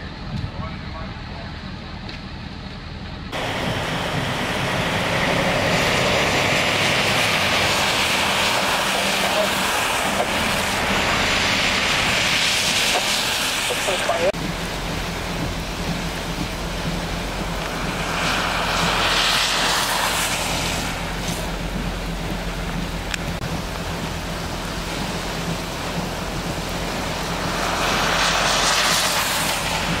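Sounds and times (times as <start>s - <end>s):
heavy rain on road: 3.3s - 30.0s
tyres through standing water: 3.4s - 30.0s.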